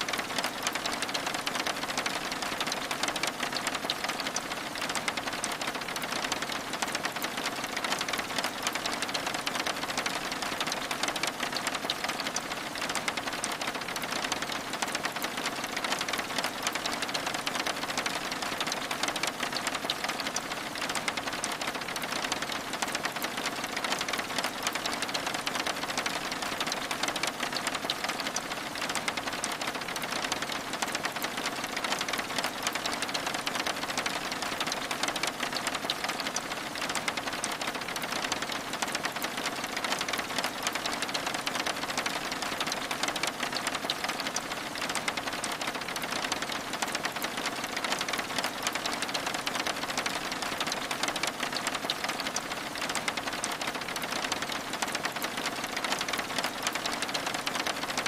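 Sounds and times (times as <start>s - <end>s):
rain on window glass: 0.0s - 58.0s.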